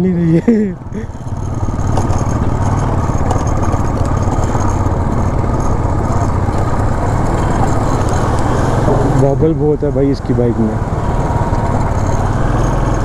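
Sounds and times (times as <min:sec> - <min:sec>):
motorcycle engine thumping: 0:00.8 - 0:13.0.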